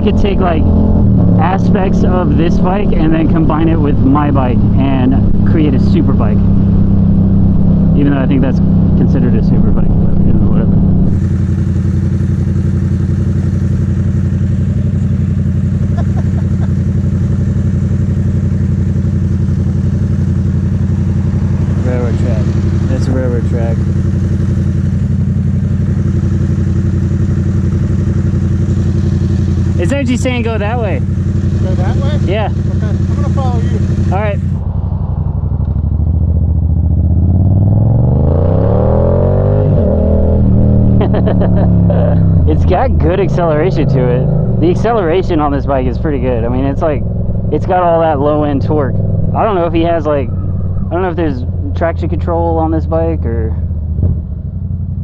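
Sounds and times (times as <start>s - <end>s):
motorcycle engine droning: 0.0s - 55.0s.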